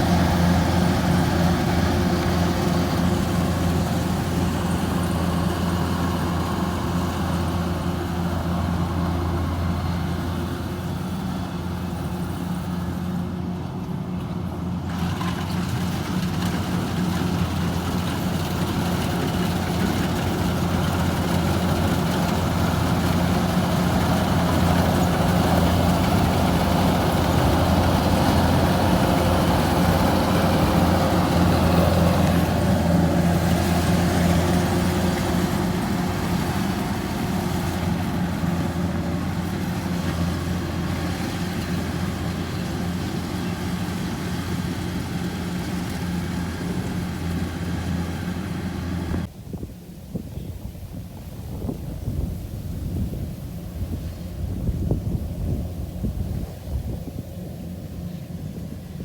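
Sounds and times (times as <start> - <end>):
farm machine engine humming: 0.0 - 49.3, 51.5 - 59.0.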